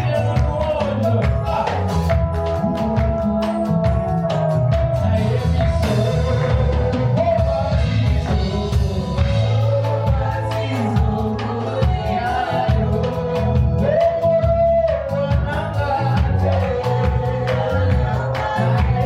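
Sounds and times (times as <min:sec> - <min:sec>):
bass line: 0:00.0 - 0:19.0
person singing: 0:00.0 - 0:19.0
steady drum beat: 0:00.0 - 0:19.0.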